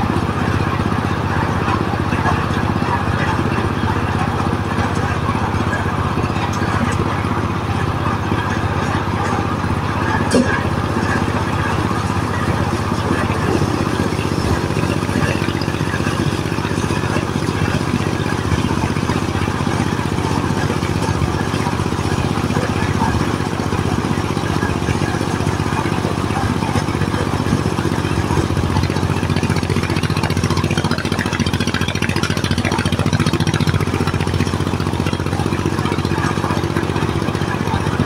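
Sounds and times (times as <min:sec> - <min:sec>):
corn sheller rattling: 0:00.0 - 0:38.0
engine drone: 0:00.0 - 0:38.0.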